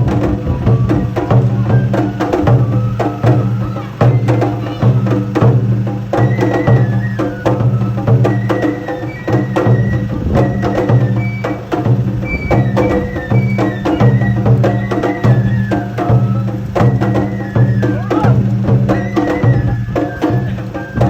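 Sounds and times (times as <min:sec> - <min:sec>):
high melody line: 0:00.0 - 0:21.0
rapid drum and percussion strikes: 0:00.0 - 0:21.0.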